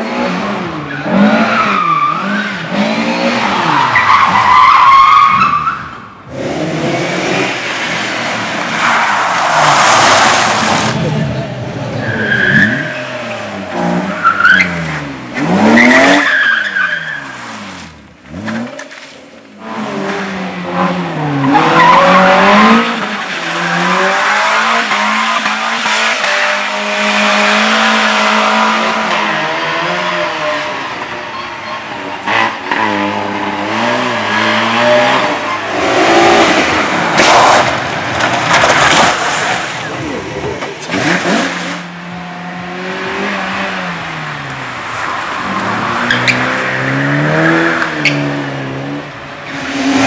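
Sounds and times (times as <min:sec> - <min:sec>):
race car engine revving: 0:00.0 - 0:04.4, 0:06.2 - 0:18.8, 0:19.6 - 0:31.3, 0:32.0 - 0:50.0
tyres squealing and skidding: 0:00.7 - 0:06.2, 0:07.4 - 0:20.4, 0:21.4 - 0:41.9, 0:42.8 - 0:50.0.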